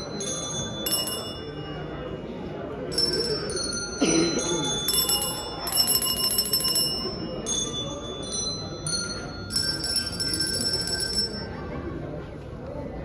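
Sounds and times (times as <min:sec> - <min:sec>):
small metal bells shaken: 0:00.0 - 0:02.1, 0:02.9 - 0:11.5.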